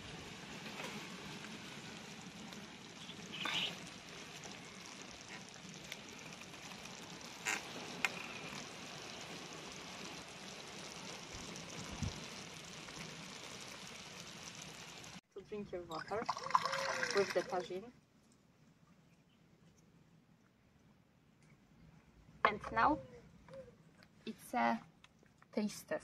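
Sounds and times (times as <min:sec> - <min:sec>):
stew simmering with soft hiss: 0:00.0 - 0:26.0.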